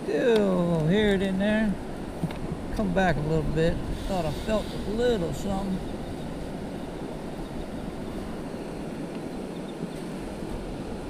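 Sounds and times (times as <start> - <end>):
surf hissing: 0.0 - 11.0
wind noise on microphone: 0.9 - 11.0.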